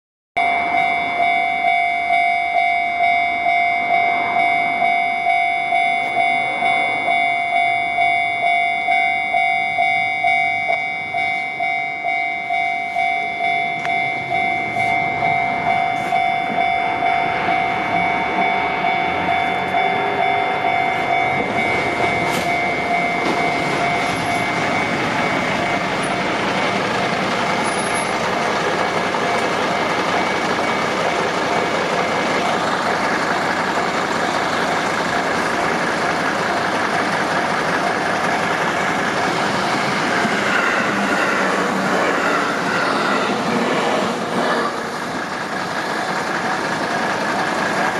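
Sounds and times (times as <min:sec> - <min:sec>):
level crossing warning bell: 0:00.4 - 0:47.9
heavy vehicle rumble: 0:02.7 - 0:47.9.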